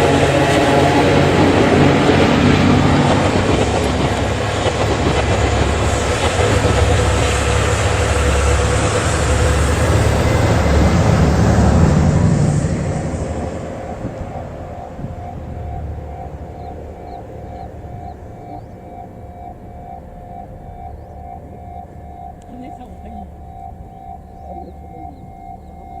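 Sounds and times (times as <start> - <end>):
passenger train rumbling past: 0.0 - 25.3.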